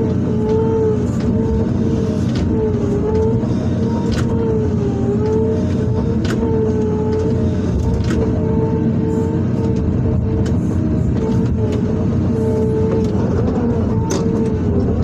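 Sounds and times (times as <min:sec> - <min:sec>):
excavator engine and hydraulic whine: 0:00.0 - 0:15.0.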